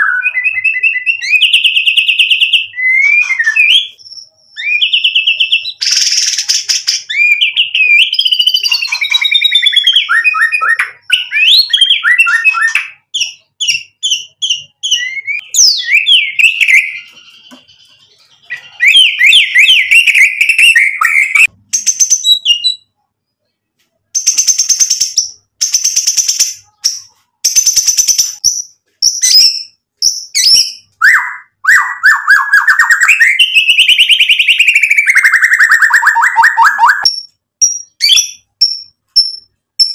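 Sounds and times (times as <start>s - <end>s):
songbird singing trills and whistles: 0.0s - 23.0s, 24.1s - 39.9s.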